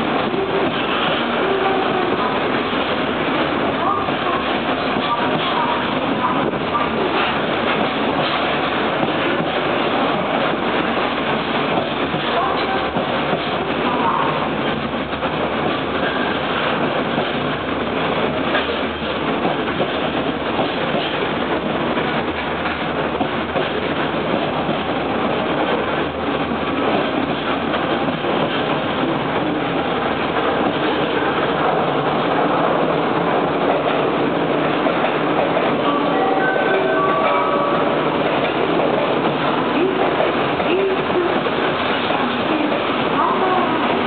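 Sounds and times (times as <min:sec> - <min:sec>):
train wheels rolling on rails: 0:00.0 - 0:44.0.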